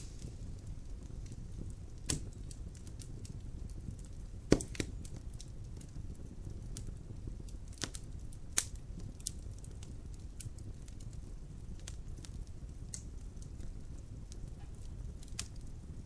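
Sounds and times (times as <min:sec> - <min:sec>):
sharp pops from fire: 0:00.0 - 0:15.9
low rumble of fire: 0:00.0 - 0:16.0
wood fire crackling: 0:00.0 - 0:16.0.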